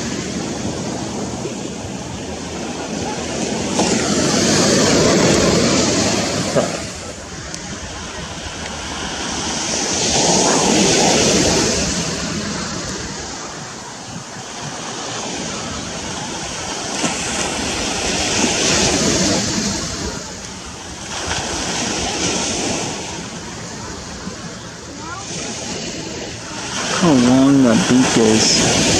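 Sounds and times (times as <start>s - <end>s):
small ocean waves breaking: 0.0s - 28.9s.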